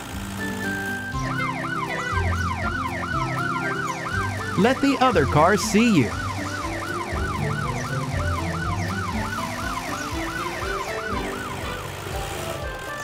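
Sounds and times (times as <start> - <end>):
cartoon siren wailing: 0.6 - 13.0.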